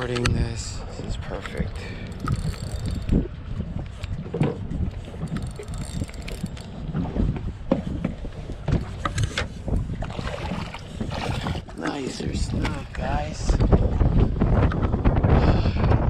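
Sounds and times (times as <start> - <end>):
water lapping against hull: 0.0 - 16.0
wind buffeting microphone: 0.0 - 16.0.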